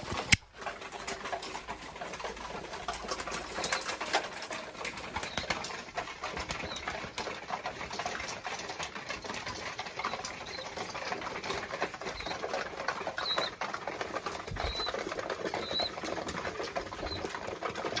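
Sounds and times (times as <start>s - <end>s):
pigeons chirping: 0.0s - 18.0s
wings flapping: 0.0s - 18.0s.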